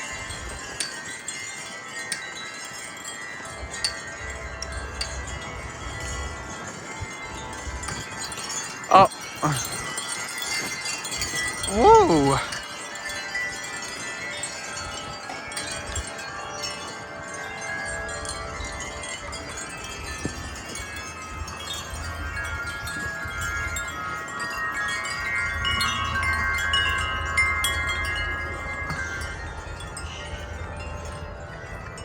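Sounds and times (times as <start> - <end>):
low wind rumble: 0.0 - 32.0
wind chimes ringing: 0.0 - 32.0.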